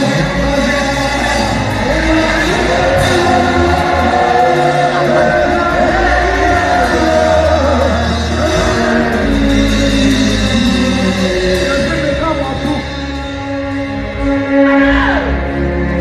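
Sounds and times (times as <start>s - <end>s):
crowd singing a gospel song: 0.0s - 16.0s
instrumental backing with bass: 0.0s - 16.0s.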